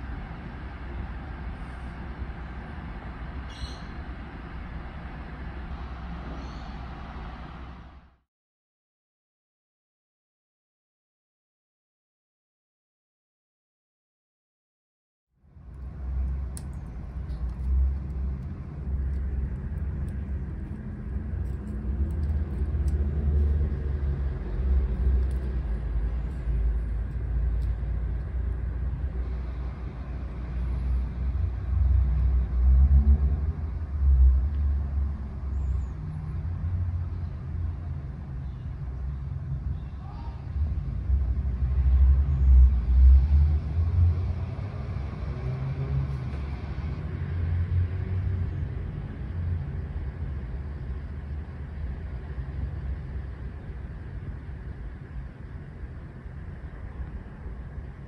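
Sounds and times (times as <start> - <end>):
low rumbling noise: 0.0 - 8.2, 15.4 - 58.0.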